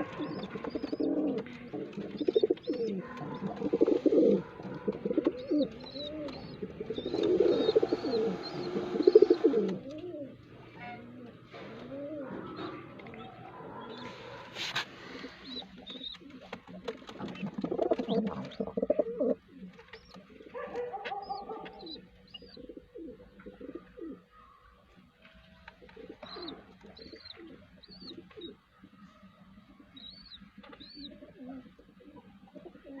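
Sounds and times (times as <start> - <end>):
pigeons cooing: 0.0 - 25.1, 25.8 - 33.0.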